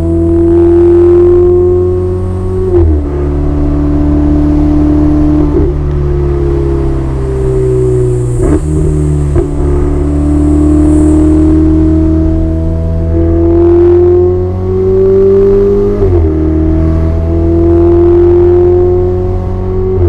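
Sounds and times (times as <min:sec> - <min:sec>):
car engine shifting gears: 0:00.0 - 0:20.0.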